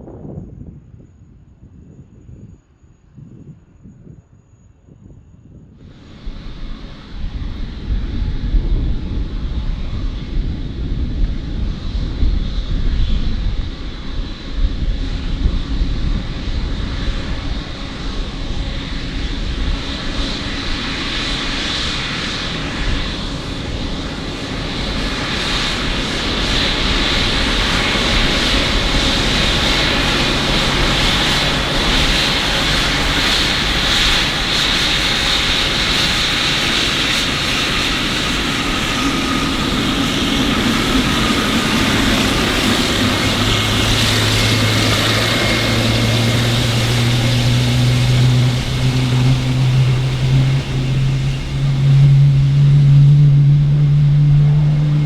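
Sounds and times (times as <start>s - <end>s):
aircraft engines running: 5.6s - 55.0s
high engine whine: 5.8s - 55.0s.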